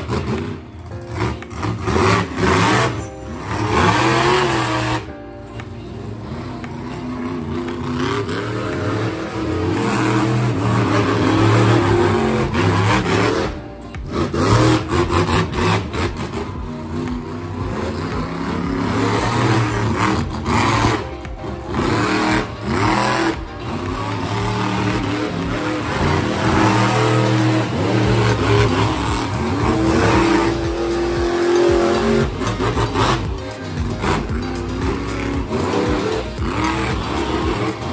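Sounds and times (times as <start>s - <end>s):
monster truck engine revving: 0.0s - 37.9s.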